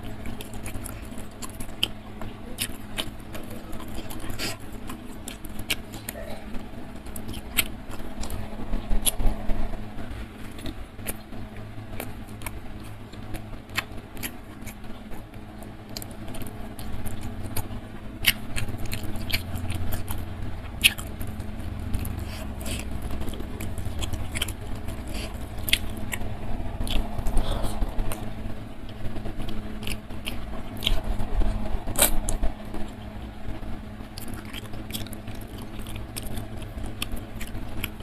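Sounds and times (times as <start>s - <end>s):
person chewing: 0.0s - 33.3s, 34.1s - 38.0s.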